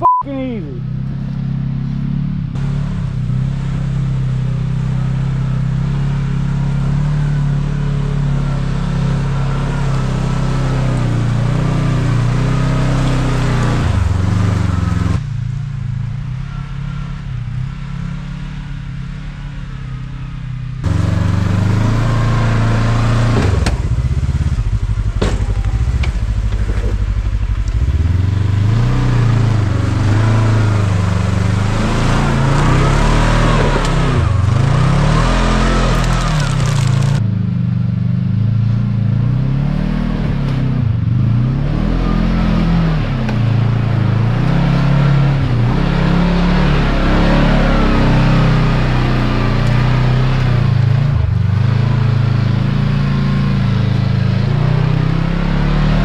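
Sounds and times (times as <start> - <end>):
engine running at low revs: 0.0 - 56.0.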